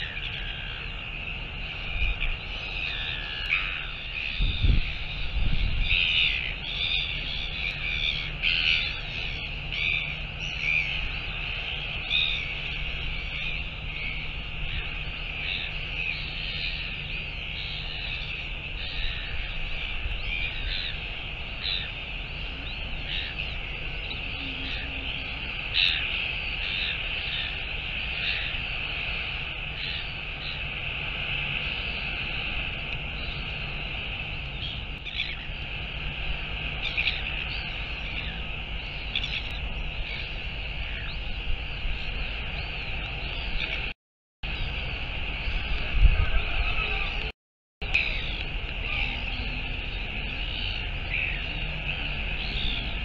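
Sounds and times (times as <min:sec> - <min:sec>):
birds giving harsh calls: 0:00.0 - 0:43.9, 0:44.5 - 0:53.0
ship low hum: 0:00.0 - 0:53.0.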